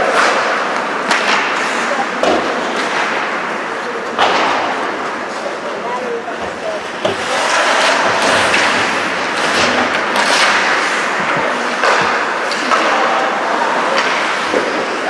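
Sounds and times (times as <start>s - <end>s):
hockey sticks clacking: 0.0s - 15.0s
skate blades scraping ice: 0.0s - 15.0s.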